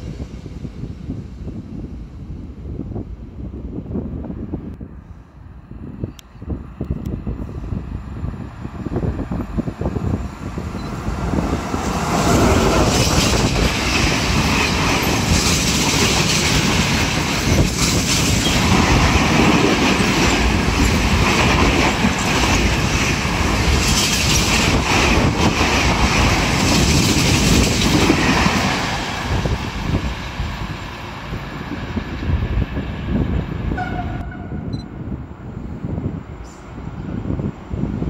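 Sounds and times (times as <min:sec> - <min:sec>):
freight train wheels on rails: 0:05.8 - 0:38.0.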